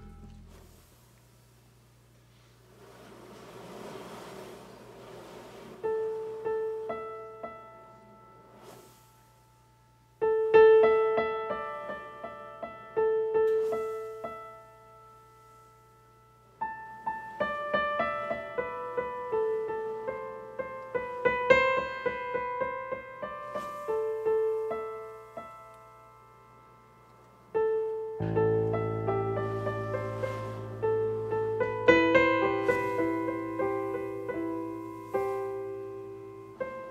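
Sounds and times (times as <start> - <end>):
piano playing slow melody: 0.0 - 1.0, 5.8 - 36.9.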